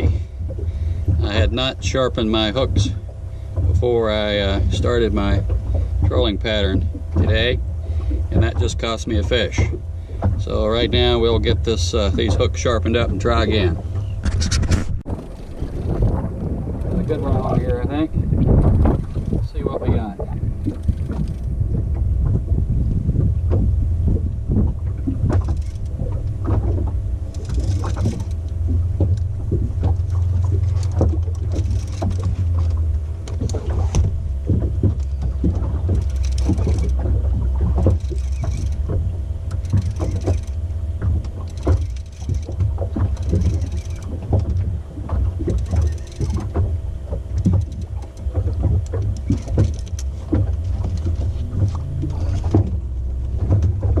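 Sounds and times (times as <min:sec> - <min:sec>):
knocks and rattles on boat: 0:00.0 - 0:54.0
outboard motor running: 0:00.0 - 0:54.0.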